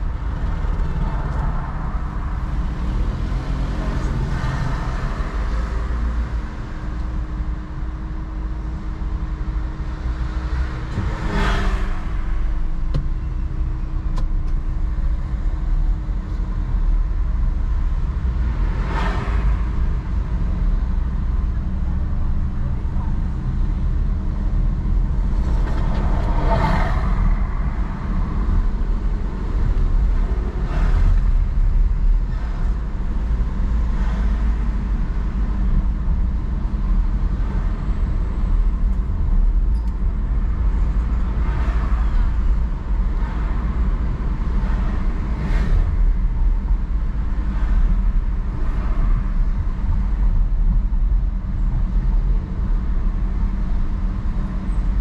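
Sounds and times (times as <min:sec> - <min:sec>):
car engine and tyres rumbling: 0:00.0 - 0:55.0
passing vehicles: 0:00.0 - 0:55.0.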